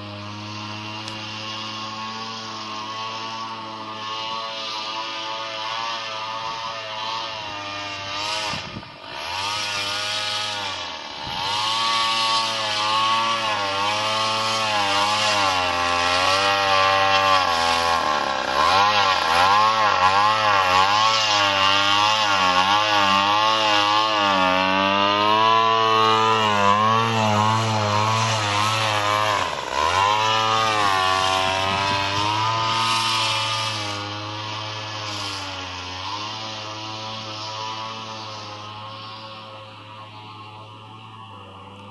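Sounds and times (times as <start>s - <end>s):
model airplane engine buzzing: 0.0s - 41.9s.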